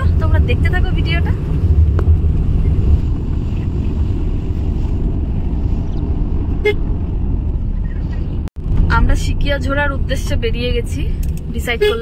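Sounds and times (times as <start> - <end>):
car driving on paved road: 0.0 - 12.0.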